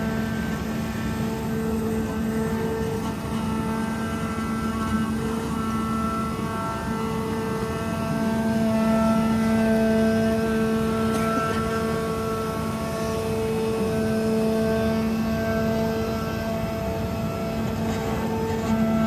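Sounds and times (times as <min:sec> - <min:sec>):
cutting machine humming and whining: 0:00.0 - 0:19.0.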